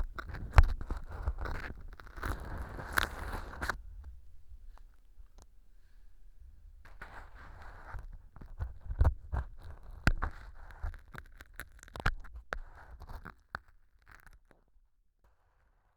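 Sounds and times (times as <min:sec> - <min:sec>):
ear pick scraping foam: 0:00.0 - 0:06.2, 0:06.8 - 0:14.3.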